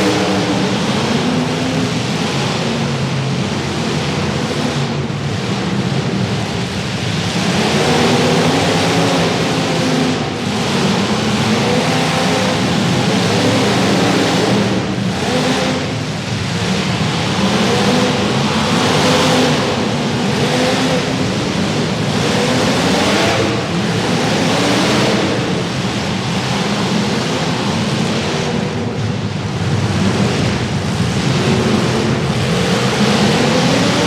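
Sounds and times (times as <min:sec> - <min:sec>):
car engines revving hard: 0:00.0 - 0:34.0.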